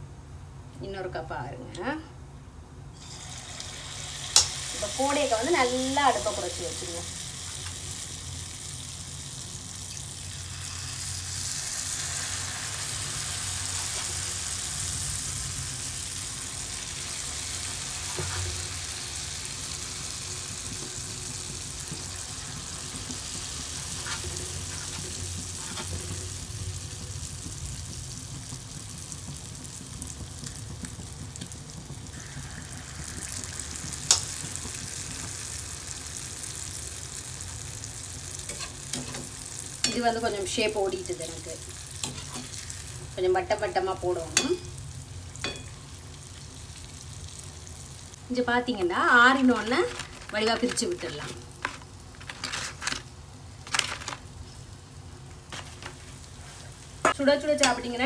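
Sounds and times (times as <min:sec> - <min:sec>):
oil sizzling: 0:02.9 - 0:58.0.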